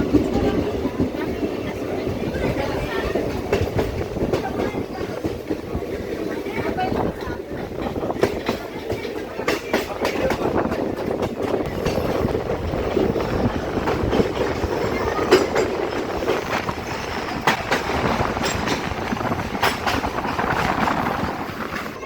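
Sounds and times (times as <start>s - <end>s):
train carriages rumbling: 0.0s - 22.0s
wheels clacking over rail joints: 0.0s - 22.0s.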